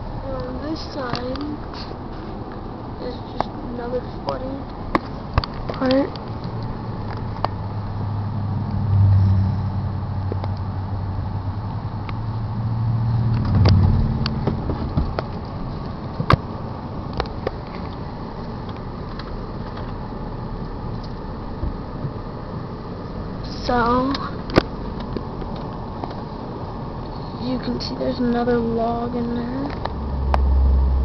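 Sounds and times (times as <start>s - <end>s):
cars passing: 0.0s - 31.0s
steady outdoor rumble: 0.0s - 31.0s.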